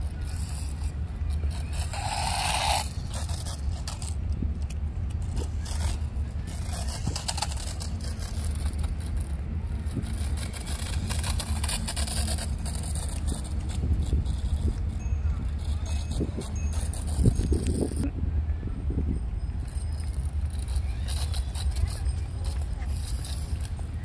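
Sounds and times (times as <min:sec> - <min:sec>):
toy motorcycle running: 0:00.0 - 0:18.1, 0:19.0 - 0:24.0
wind rumble on microphone: 0:00.0 - 0:24.0.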